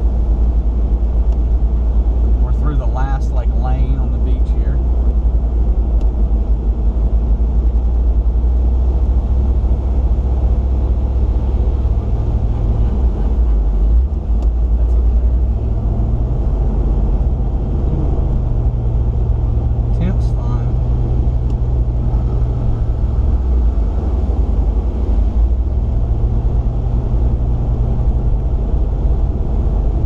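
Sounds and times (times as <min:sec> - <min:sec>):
engine drone inside vehicle: 0:00.0 - 0:30.0.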